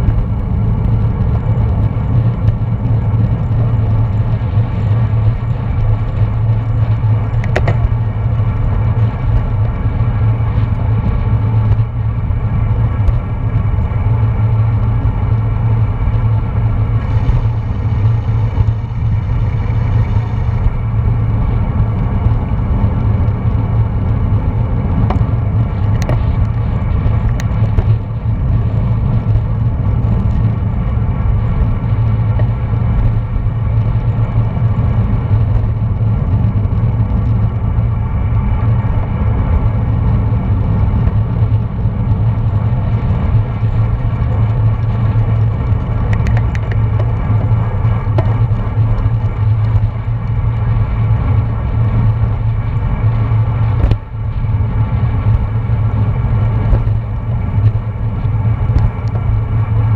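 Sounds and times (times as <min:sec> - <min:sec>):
tyre and road noise: 0:00.0 - 0:59.9
wind rumbling on microphone: 0:00.0 - 0:59.9.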